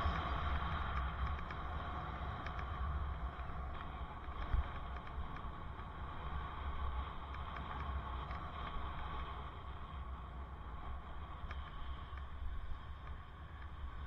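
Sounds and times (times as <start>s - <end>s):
bicycle road rumble: 0.0s - 14.0s.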